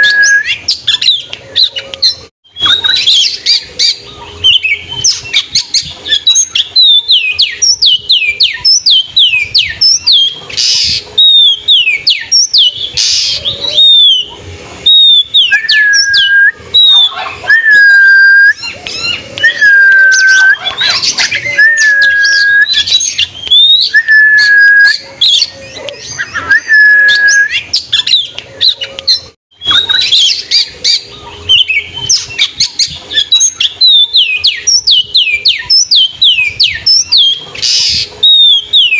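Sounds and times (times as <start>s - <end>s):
magpie-robin singing: 0.0s - 38.9s.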